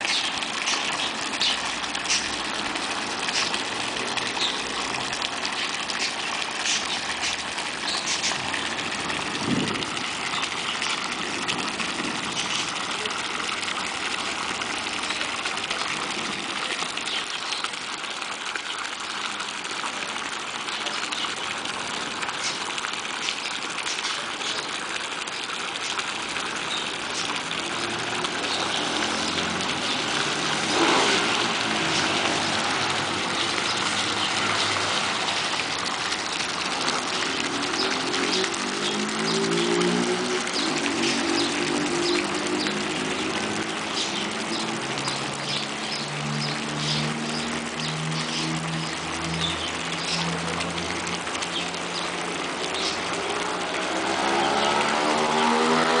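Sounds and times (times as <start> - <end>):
pool pump running: 0.0 - 56.0
rush of pool water: 0.0 - 56.0.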